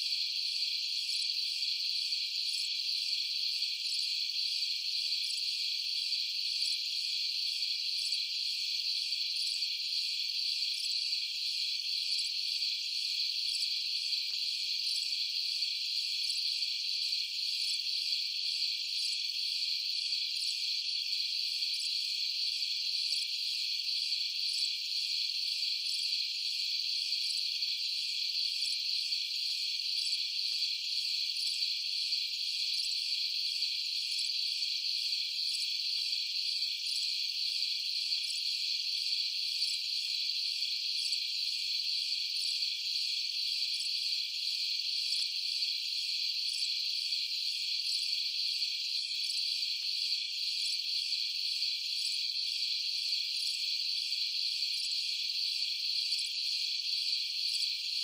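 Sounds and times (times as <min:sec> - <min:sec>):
crickets chirping and trilling: 0:00.0 - 0:58.0.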